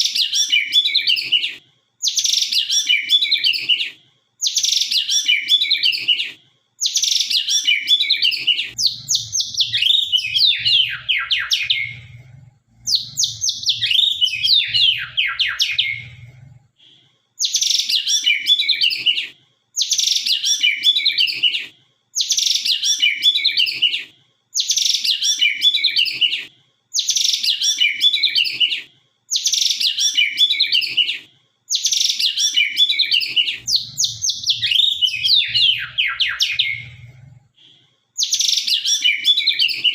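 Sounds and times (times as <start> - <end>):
songbird singing sharp phrases: 0.0 - 12.2, 12.8 - 16.3, 17.4 - 24.0, 24.6 - 37.1, 38.2 - 39.9.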